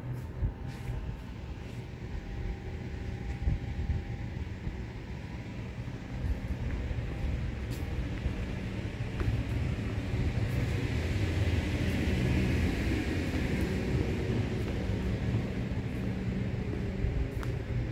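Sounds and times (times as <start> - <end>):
metro station rumble: 0.0 - 17.9.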